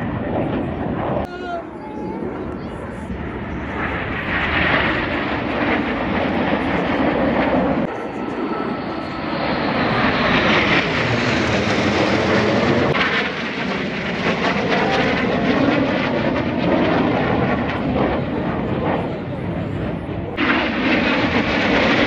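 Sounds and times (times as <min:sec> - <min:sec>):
jet aircraft roar: 0:00.0 - 0:22.0.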